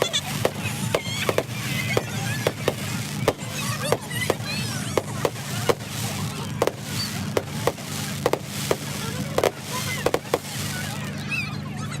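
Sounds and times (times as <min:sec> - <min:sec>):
fireworks cracks and bangs: 0:00.0 - 0:11.2
steady low hum: 0:00.0 - 0:12.0.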